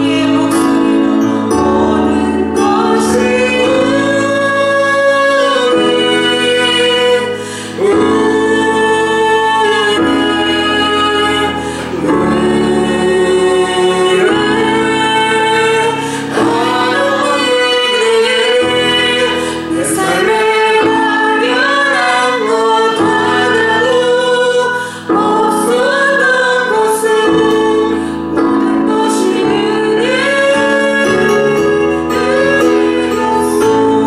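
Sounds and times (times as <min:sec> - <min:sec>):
sustained instrumental chords: 0:00.0 - 0:34.0
women singing gospel song: 0:00.0 - 0:34.0.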